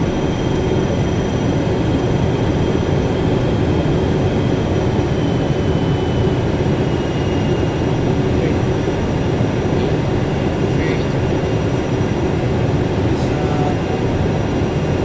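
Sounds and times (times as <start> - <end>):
faint high whine: 0.0 - 15.0
jet engine and airflow rush: 0.0 - 15.0.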